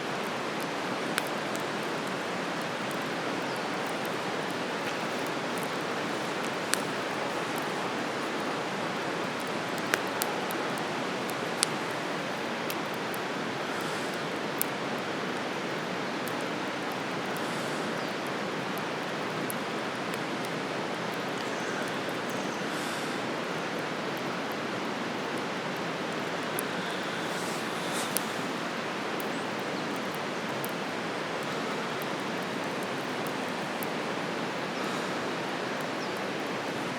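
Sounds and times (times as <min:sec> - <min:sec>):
campfire pops and crackles: 0:00.0 - 0:36.9.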